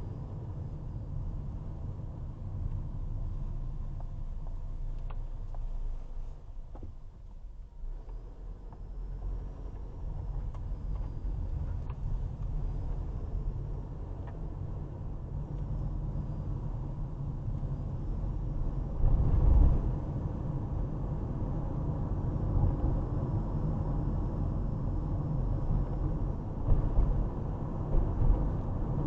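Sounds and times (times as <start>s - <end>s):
car driving rumble inside cabin: 0.0s - 29.0s.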